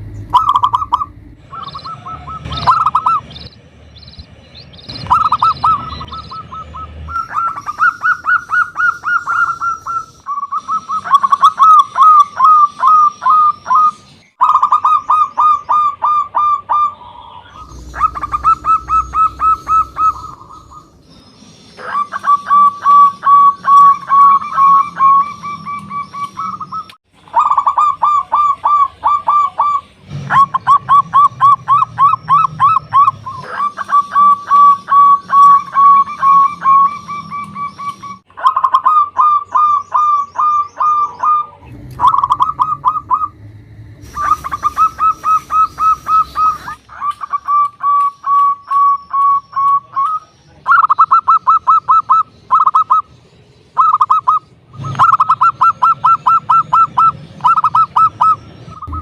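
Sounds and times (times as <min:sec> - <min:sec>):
dove cooing: 0:00.0 - 0:03.4, 0:05.0 - 0:21.0, 0:21.7 - 0:53.1, 0:53.8 - 0:59.0.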